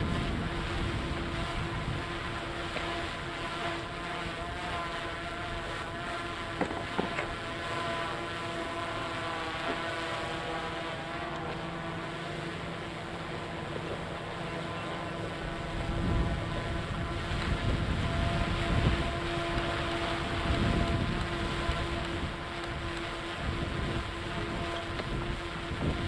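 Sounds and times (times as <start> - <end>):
boat diesel engine droning: 0.0 - 26.0.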